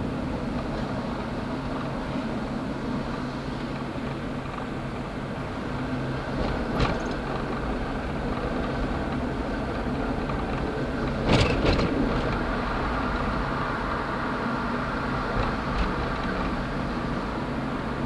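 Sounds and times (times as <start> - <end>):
streetcar rumbling on track: 0.0 - 18.0.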